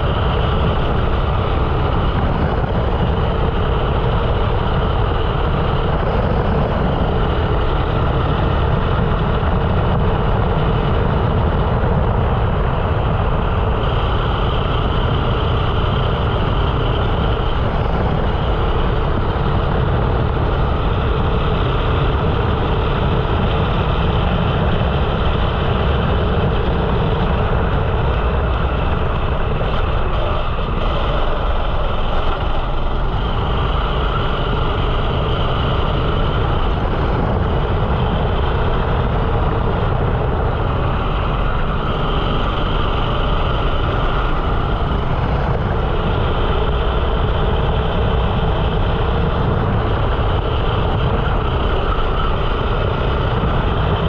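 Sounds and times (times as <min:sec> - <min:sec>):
kart engine running: 0:00.0 - 0:54.0.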